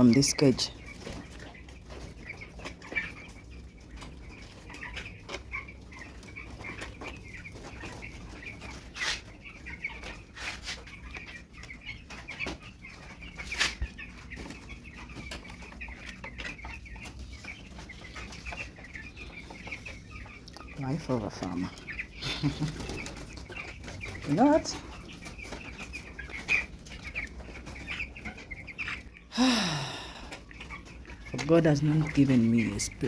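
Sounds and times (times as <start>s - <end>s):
chickens chirping and clucking: 0.0s - 33.0s.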